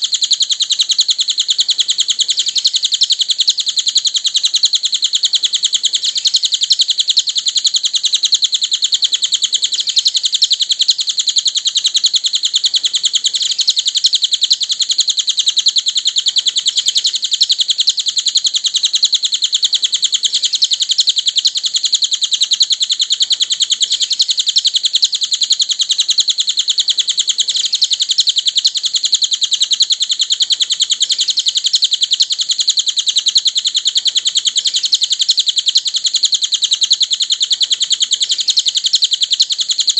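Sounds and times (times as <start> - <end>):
bird chirping trill: 0.0 - 39.9.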